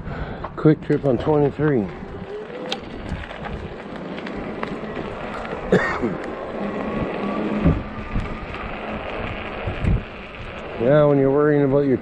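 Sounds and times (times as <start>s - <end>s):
tyres on pavement: 0.0s - 12.0s
wind rush: 0.0s - 12.0s.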